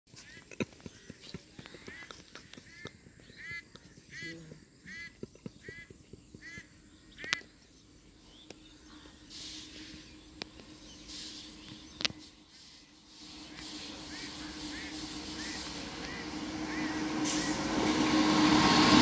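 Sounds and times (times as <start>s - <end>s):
bird calling: 0.1s - 17.8s.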